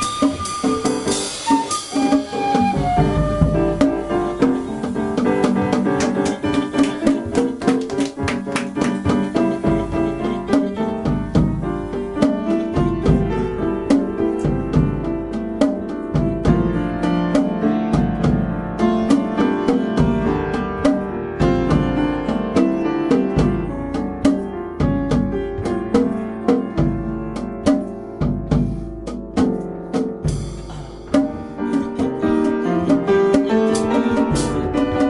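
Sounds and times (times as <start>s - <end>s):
drum kit with cymbals: 0.0s - 35.0s
jazz piano playing: 0.0s - 35.0s.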